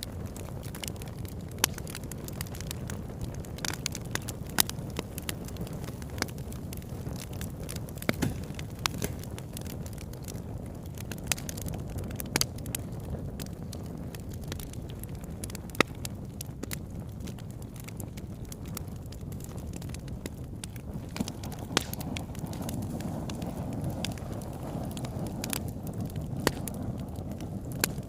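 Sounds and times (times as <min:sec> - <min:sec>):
burning wood crackling and popping: 0:00.0 - 0:28.0
campfire flames rumbling: 0:00.0 - 0:28.0.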